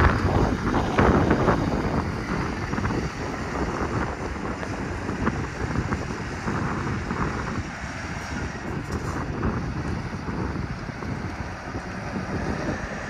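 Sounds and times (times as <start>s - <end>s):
diesel truck engine driving away: 0.0s - 13.0s
wind buffeting microphone: 0.0s - 13.0s.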